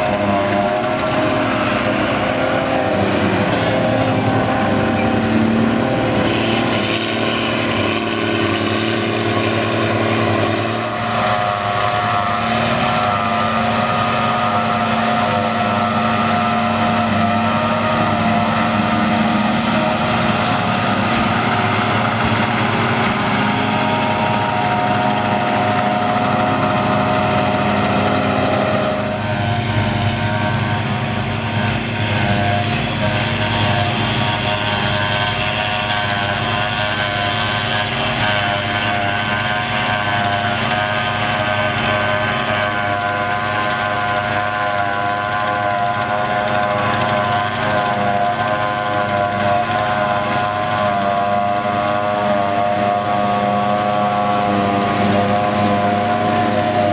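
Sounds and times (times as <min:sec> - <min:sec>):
forage harvester engine and cutterhead: 0:00.0 - 0:56.9
tractor engine: 0:00.0 - 0:56.9.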